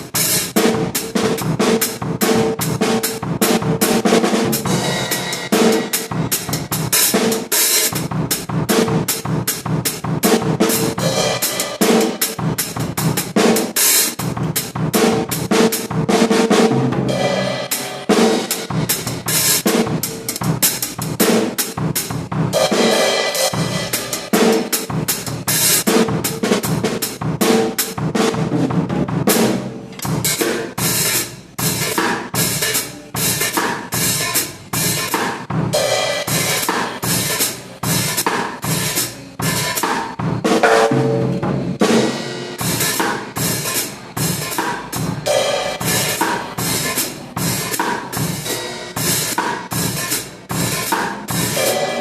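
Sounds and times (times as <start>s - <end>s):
drum kit bass and snare rolls: 0.0s - 52.0s.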